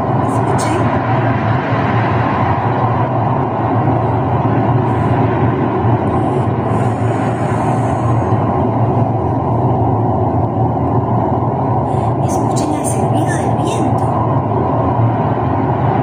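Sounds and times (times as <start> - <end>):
wind blowing hard: 0.0 - 16.0.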